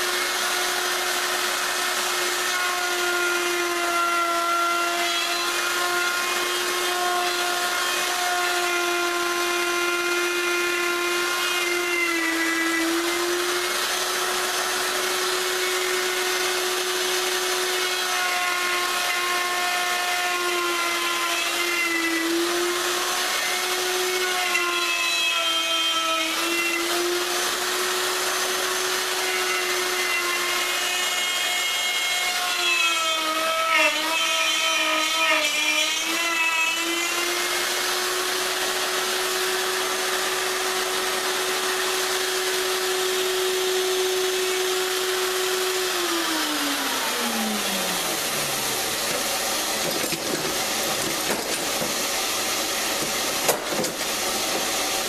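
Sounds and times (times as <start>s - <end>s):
wood router cutting: 0.0s - 55.0s.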